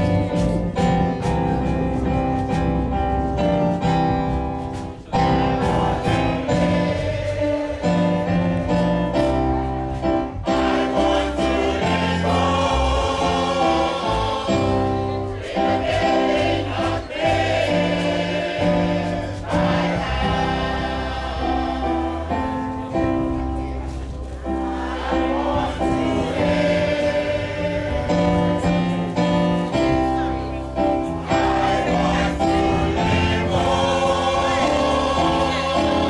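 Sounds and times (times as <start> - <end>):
choir singing gospel: 0.0 - 36.0
instrumental accompaniment: 0.0 - 36.0.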